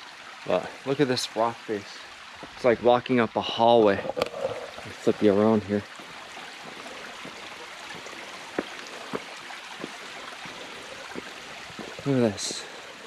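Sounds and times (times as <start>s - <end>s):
creek water running over rocks: 0.0s - 13.0s.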